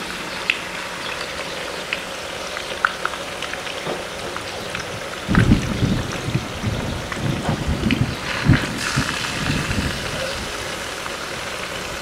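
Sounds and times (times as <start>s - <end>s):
food deep-frying in oil: 0.0s - 12.0s
low uneven rumbling: 0.1s - 12.0s.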